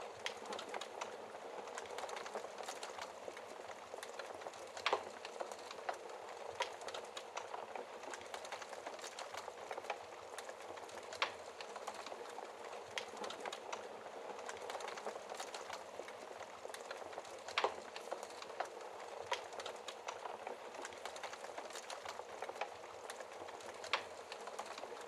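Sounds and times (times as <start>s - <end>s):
burning logs crackling and popping: 0.0s - 25.0s.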